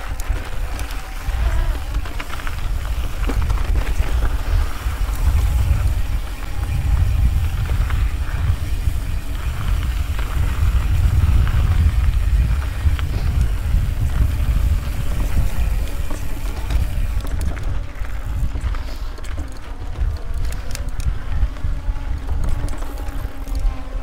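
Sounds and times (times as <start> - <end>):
bike clicks and rattles: 0.0 - 24.0
wind buffeting the microphone: 0.0 - 24.0.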